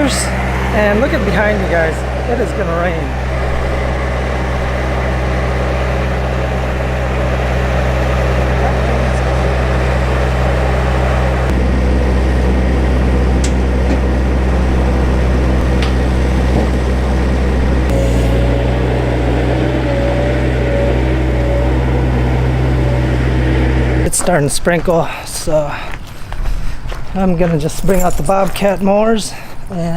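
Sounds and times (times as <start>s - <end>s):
vehicle engine running: 0.0s - 24.4s.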